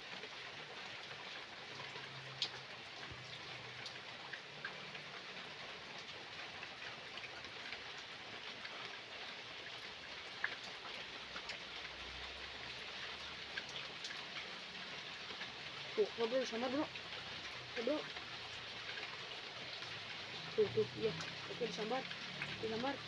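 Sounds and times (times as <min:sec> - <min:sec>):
raindrops ticking: 0:00.0 - 0:23.0
steady rain patter: 0:00.0 - 0:23.0.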